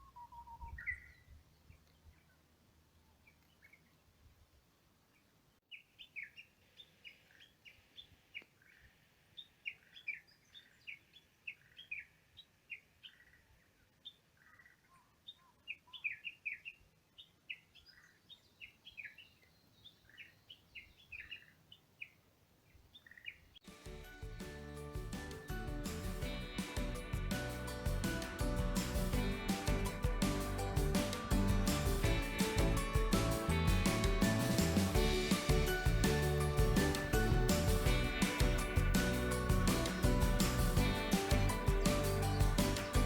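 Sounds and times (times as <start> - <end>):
small birds chirping: 0.0 - 4.1, 5.0 - 23.6, 24.4 - 43.0.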